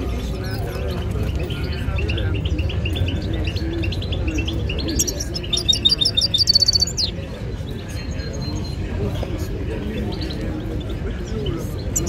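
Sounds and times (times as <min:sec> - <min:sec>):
finch twittering and trilling: 0:00.0 - 0:12.0.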